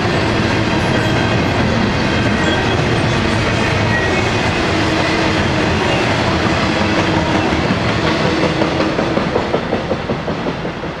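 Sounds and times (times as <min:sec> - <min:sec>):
train wheels clattering over rail: 0:00.0 - 0:11.0.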